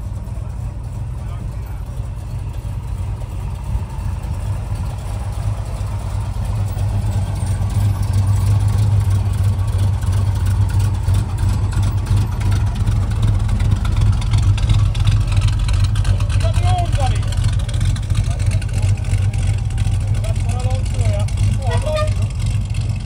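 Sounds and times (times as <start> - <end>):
car exhaust rumble: 0.0 - 23.0.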